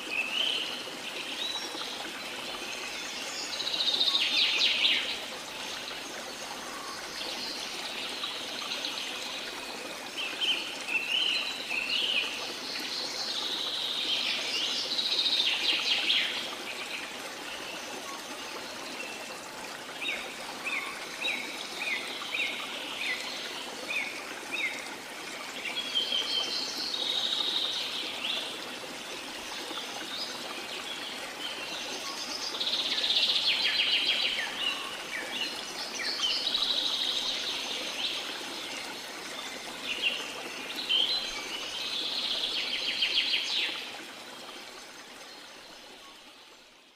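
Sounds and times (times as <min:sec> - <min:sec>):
running water: 0:00.0 - 0:46.9.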